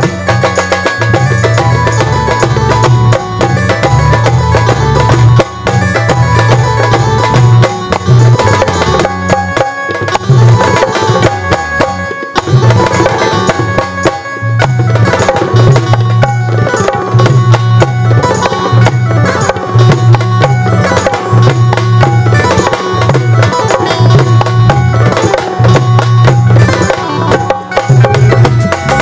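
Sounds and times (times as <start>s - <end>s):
band holding melody notes: 0.0s - 29.0s
hand drum booming rhythm: 0.0s - 29.0s.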